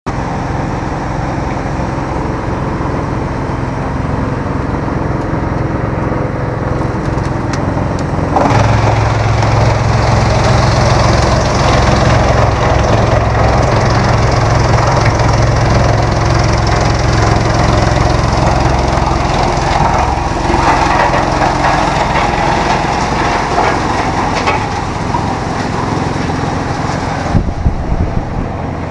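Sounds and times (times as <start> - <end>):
wood chipper chipping wood: 0.1 - 28.9
wood chipper running: 0.1 - 28.9.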